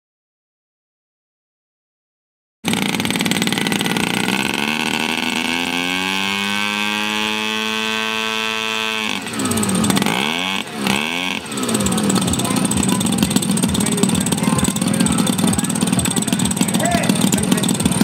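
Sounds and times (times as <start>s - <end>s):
model airplane engine revving: 2.7s - 18.0s.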